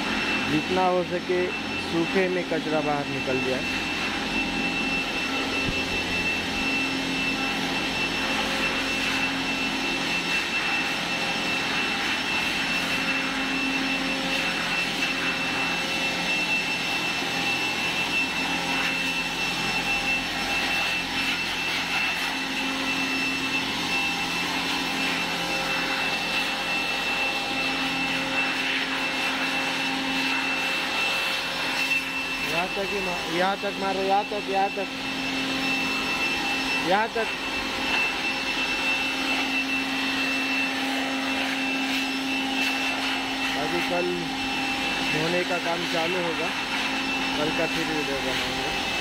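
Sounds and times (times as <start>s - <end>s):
electric blower running: 0.0s - 49.0s.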